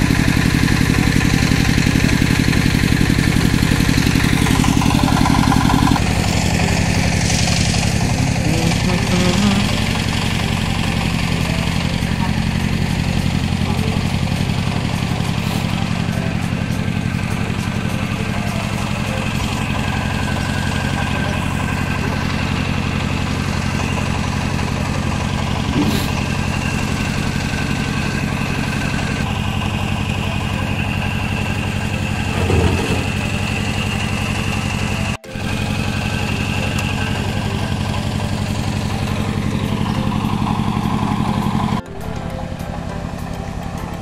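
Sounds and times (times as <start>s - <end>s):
small engine running steadily: 0.0s - 44.0s.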